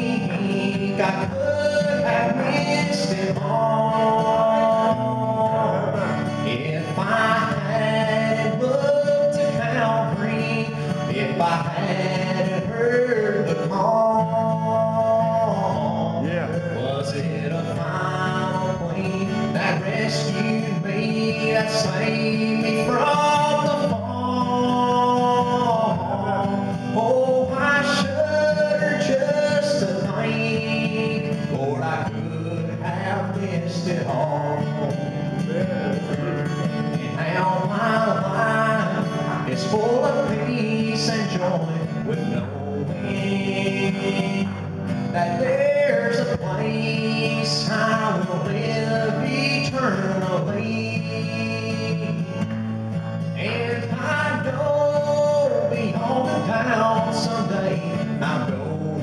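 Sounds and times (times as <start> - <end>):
man singing gospel song: 0.0 - 52.4, 53.3 - 59.0
acoustic guitar: 0.0 - 59.0.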